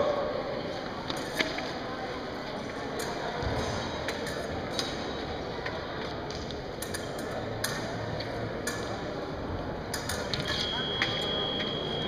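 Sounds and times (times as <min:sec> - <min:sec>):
murmur of sports hall: 0:00.0 - 0:12.0.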